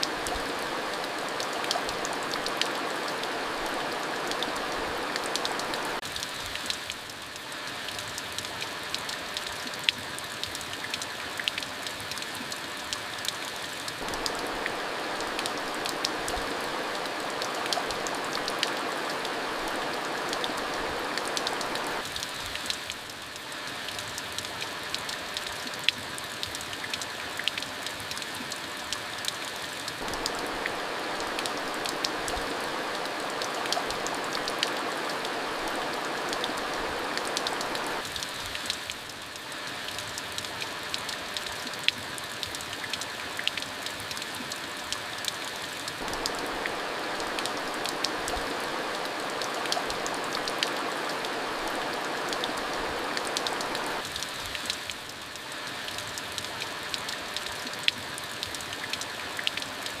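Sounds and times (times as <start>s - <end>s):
raindrops ticking: 0.0s - 60.0s
steady rain: 0.0s - 60.0s.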